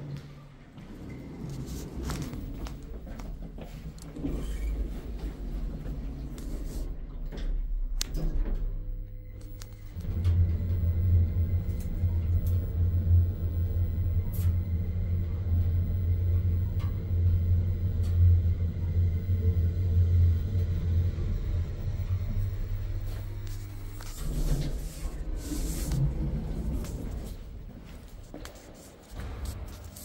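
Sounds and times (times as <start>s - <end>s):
elevator rumbling: 0.0s - 30.0s
faint steady hum: 0.0s - 30.0s.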